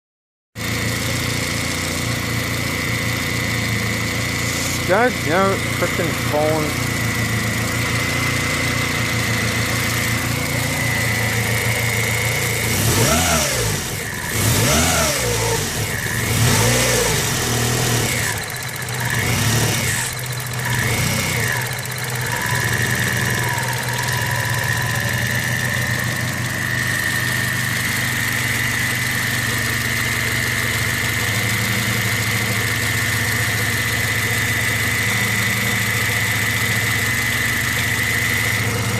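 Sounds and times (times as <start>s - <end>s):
car engine idling and revving: 0.6s - 38.9s.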